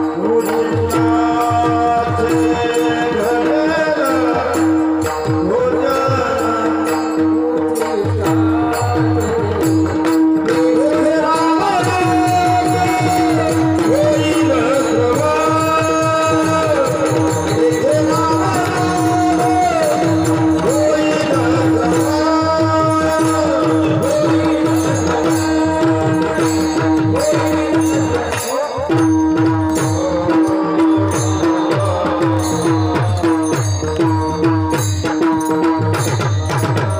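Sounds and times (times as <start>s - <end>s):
fast hand-drum strokes: 0.0s - 36.9s.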